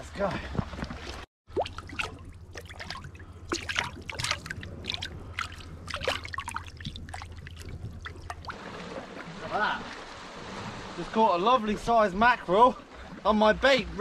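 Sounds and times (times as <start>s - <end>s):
low steady hum: 0.1s - 14.0s
water lapping among rocks: 0.4s - 13.4s.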